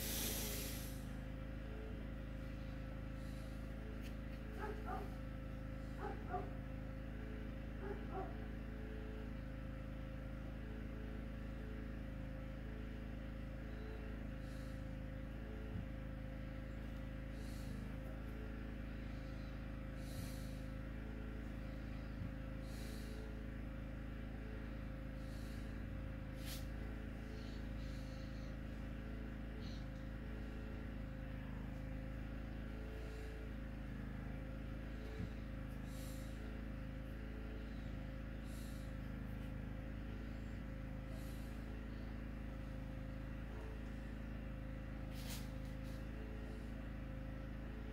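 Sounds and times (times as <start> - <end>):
faint steady tone: 0.0 - 47.9
steady low hum: 0.0 - 47.9.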